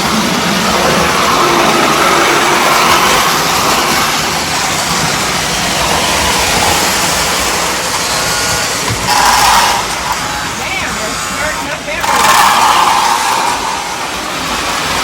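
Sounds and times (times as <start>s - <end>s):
model trains rumbling on track: 0.0s - 15.0s.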